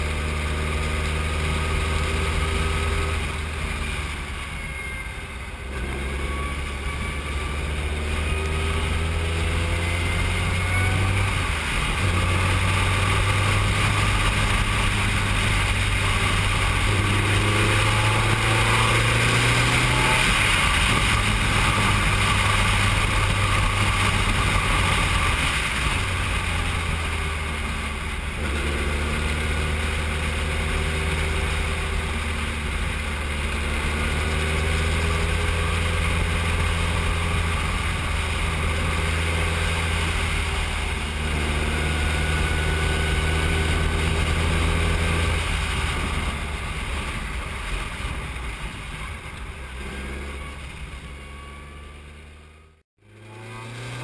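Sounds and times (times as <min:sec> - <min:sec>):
racing car engine revving: 0:05.7 - 0:47.4, 0:49.3 - 0:54.0.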